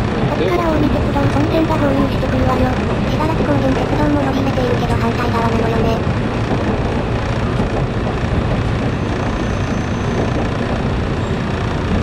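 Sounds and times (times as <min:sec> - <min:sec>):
train motors and wheels rumbling: 0:00.0 - 0:12.0.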